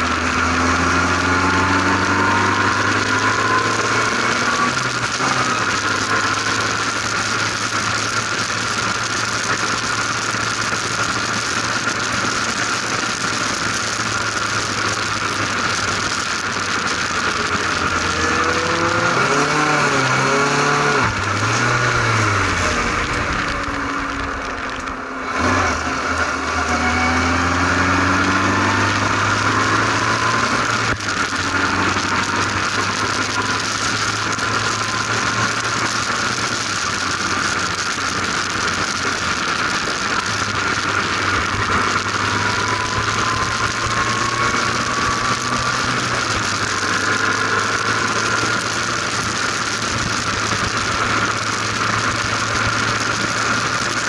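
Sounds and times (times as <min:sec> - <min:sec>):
race car engine accelerating: 0:00.0 - 0:54.0
wind and road noise: 0:00.0 - 0:54.0.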